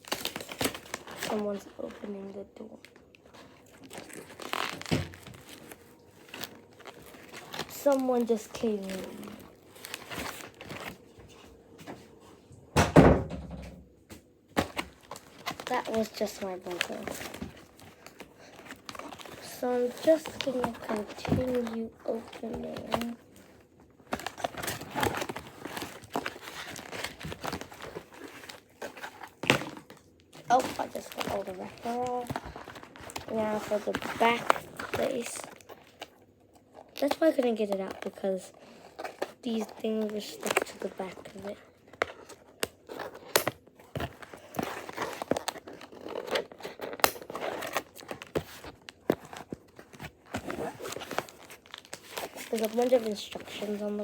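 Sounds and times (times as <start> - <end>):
plastic wrapper crinkling and tearing: 0.0 - 11.1, 14.6 - 54.0.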